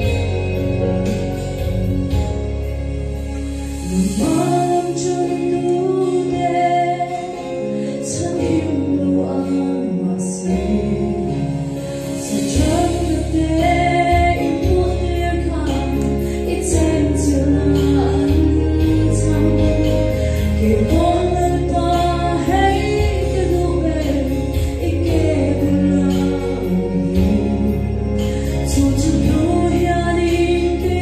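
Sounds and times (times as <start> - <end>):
instrumental accompaniment: 0.0 - 31.0
woman singing gospel song: 3.8 - 11.6, 12.2 - 31.0.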